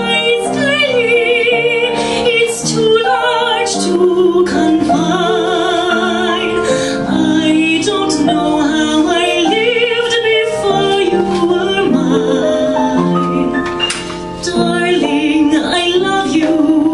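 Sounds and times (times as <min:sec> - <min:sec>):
piano accompaniment: 0:00.0 - 0:16.9
woman singing a ballad: 0:00.0 - 0:16.9.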